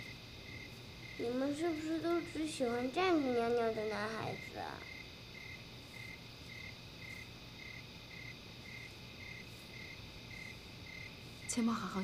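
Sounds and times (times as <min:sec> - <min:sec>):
cricket chirping: 0:00.0 - 0:12.0
low steady hum: 0:00.0 - 0:12.0.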